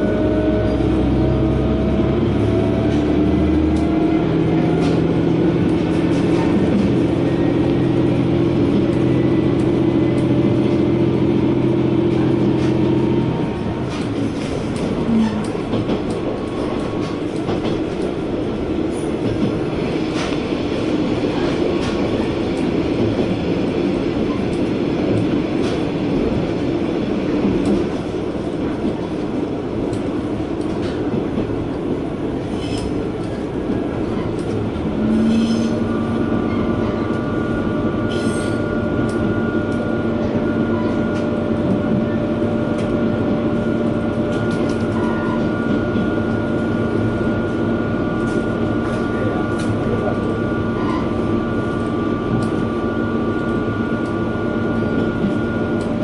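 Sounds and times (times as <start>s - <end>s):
railcar engine droning: 0.0s - 56.0s
wheels rumbling on rail: 0.0s - 56.0s.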